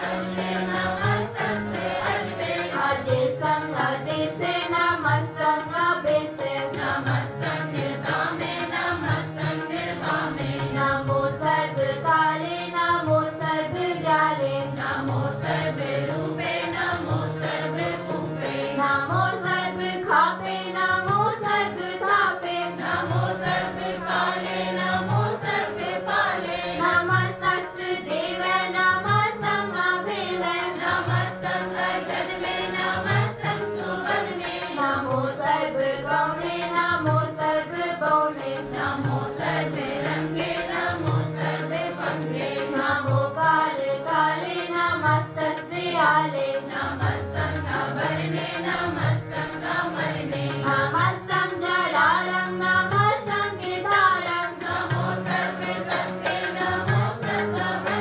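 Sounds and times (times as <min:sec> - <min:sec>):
girls singing together: 0:00.0 - 0:58.0
harmonium drone: 0:00.0 - 0:58.0
tabla drums: 0:00.0 - 0:58.0.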